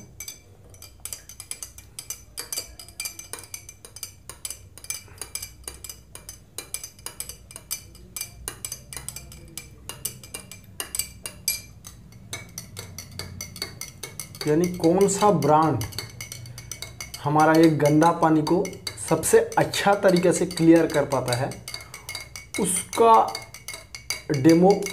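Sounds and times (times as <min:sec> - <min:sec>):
sticks clinking in glass tumblers: 0:00.0 - 0:24.9.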